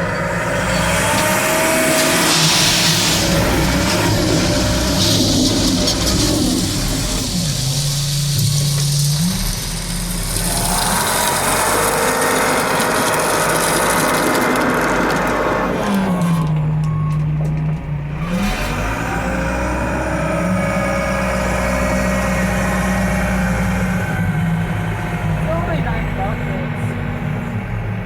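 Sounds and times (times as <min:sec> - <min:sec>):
heavy diesel engine running hard: 0:00.0 - 0:28.0.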